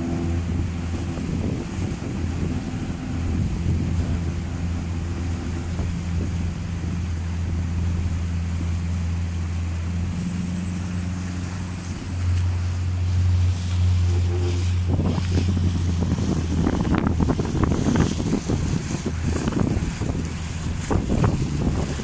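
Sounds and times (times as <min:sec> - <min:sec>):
boat engine humming: 0:00.0 - 0:22.0
water noise: 0:00.0 - 0:22.0
wind: 0:00.0 - 0:22.0.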